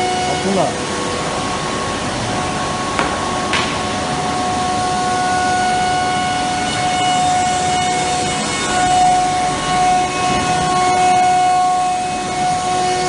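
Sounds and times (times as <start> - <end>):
cnc router whining: 0.0 - 13.0.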